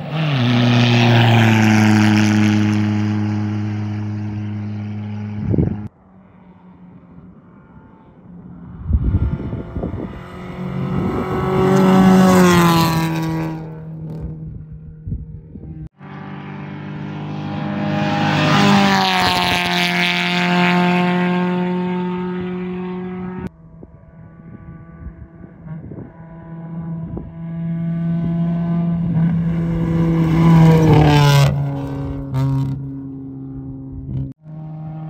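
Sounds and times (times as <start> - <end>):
rally cars passing at full throttle: 0.0 - 35.0.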